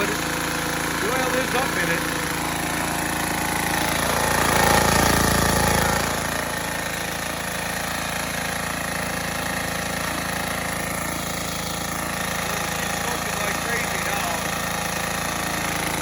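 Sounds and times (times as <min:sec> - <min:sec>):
small gasoline engine running: 0:00.0 - 0:16.0.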